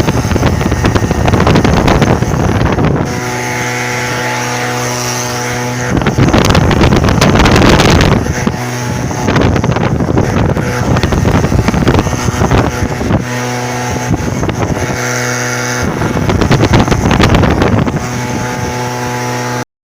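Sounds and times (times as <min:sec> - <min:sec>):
engine droning: 0:00.0 - 0:19.6
wind buffeting microphone: 0:00.0 - 0:19.6.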